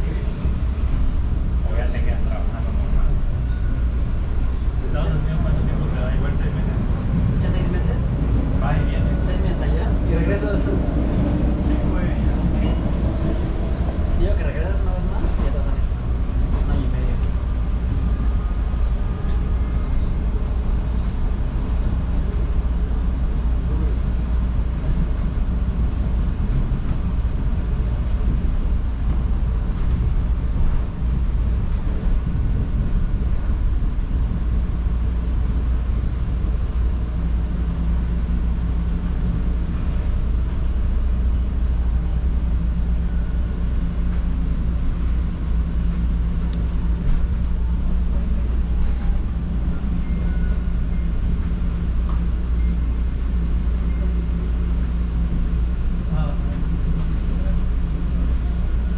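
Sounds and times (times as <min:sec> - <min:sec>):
subway train rumbling: 0:00.0 - 0:58.9.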